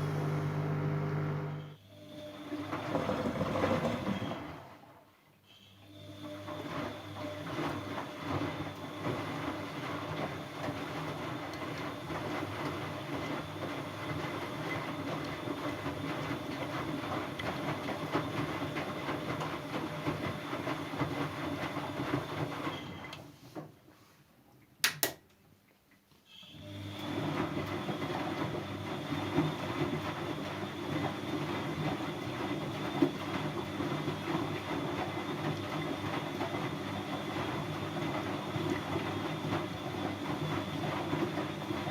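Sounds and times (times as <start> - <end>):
washing machine humming: 0.0 - 23.5, 26.5 - 41.9.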